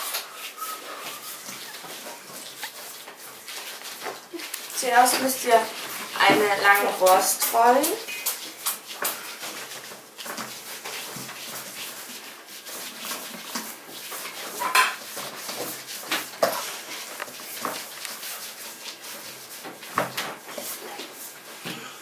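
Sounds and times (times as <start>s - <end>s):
hands rolling dough on table: 0.0s - 21.9s.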